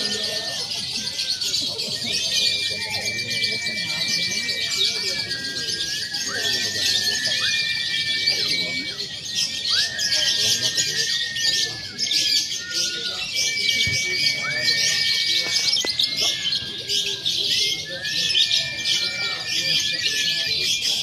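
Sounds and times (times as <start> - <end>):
long whistled bird notes: 0.0 - 21.0
lovebirds chattering and trilling: 0.0 - 21.0.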